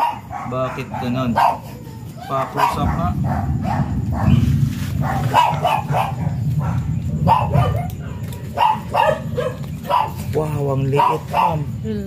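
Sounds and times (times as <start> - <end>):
dog barking: 0.0 - 4.4, 5.0 - 11.7.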